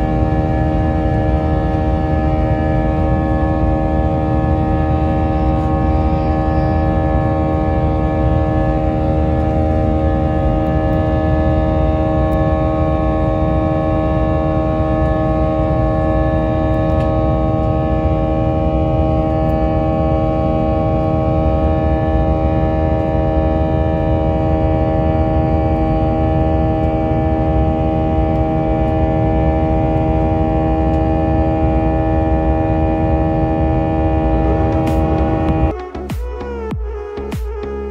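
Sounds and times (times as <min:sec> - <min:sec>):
humming tones: 0:00.0 - 0:37.9
jet engine roar in cabin: 0:00.0 - 0:37.9.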